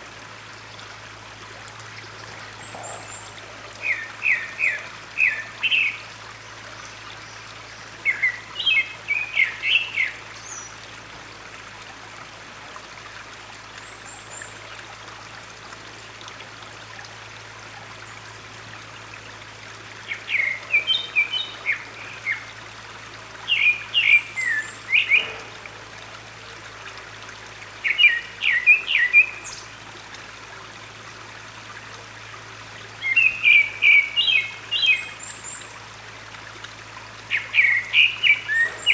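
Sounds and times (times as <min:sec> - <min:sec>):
running stream water: 0:00.0 - 0:38.9.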